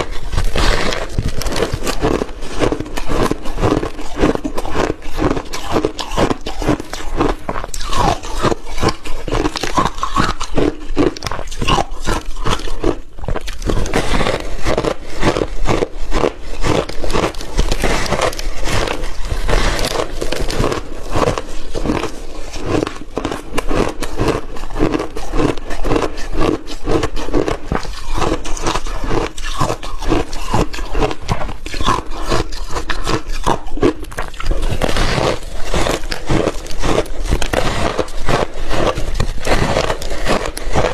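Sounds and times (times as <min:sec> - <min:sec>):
chewing and crunching shaved ice: 0:00.0 - 0:40.9.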